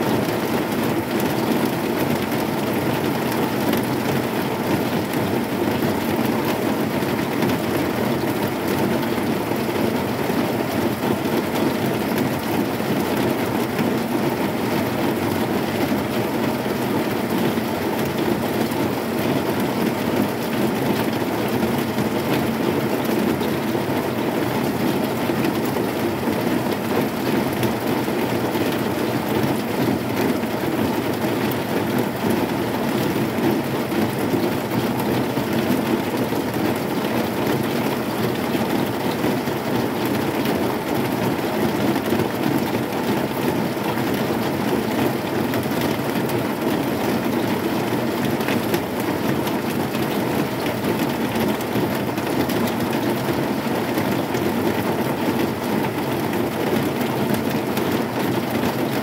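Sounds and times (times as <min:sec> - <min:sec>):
heavy rain on metal roof: 0:00.0 - 0:59.0.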